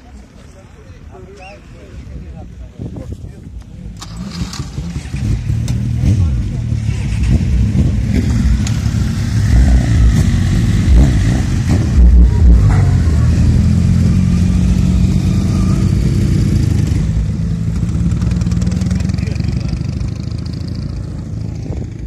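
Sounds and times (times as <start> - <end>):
cars and motorcycles driving past: 4.0 - 22.0.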